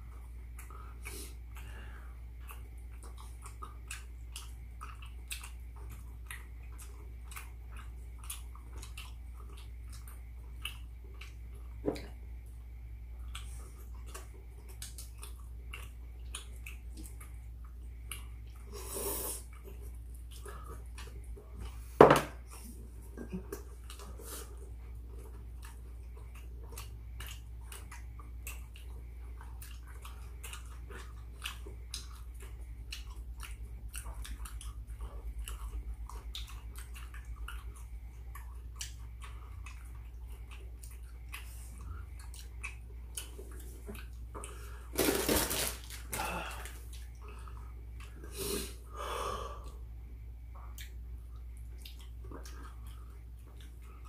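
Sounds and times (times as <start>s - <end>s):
people chewing: 0.0s - 54.0s
steady low hum: 0.0s - 54.0s.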